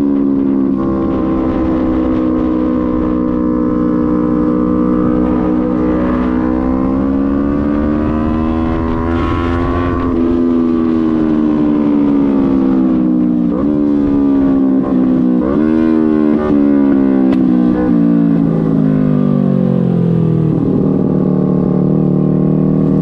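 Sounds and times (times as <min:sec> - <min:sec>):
low wind rumble: 0:00.0 - 0:23.0
motorcycle engine cruising: 0:00.0 - 0:23.0.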